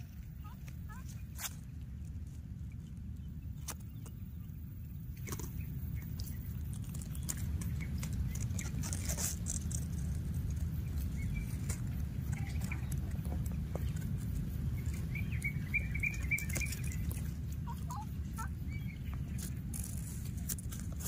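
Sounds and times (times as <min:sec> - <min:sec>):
leaves rustling and clicking: 0:00.0 - 0:04.2, 0:05.2 - 0:21.0
wind rumble on microphone: 0:00.0 - 0:21.0.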